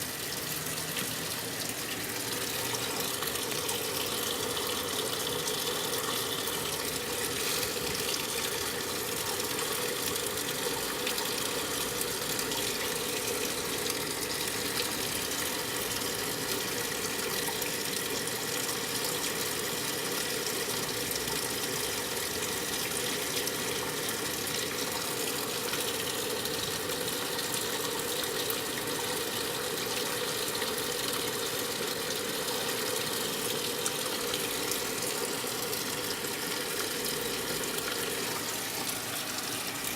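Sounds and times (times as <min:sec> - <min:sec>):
washing machine filling with water: 0:00.0 - 0:39.9.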